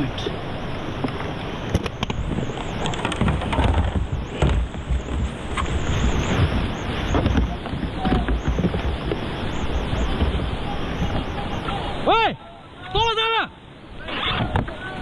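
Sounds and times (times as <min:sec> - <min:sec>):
wind buffeting microphone: 0:00.0 - 0:12.0
river rushing: 0:00.0 - 0:15.0.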